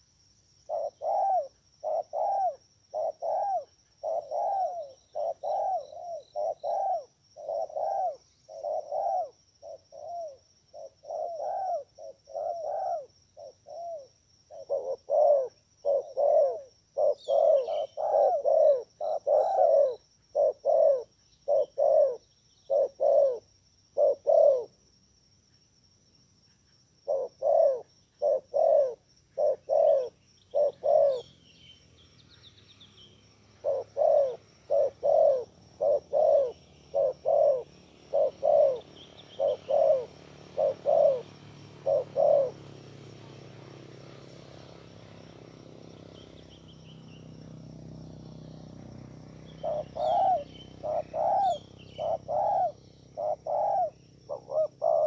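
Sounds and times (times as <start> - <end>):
small birds chirping: 0.6 - 24.8, 25.4 - 55.0
dove cooing: 0.7 - 24.8, 27.0 - 31.3, 33.6 - 55.0.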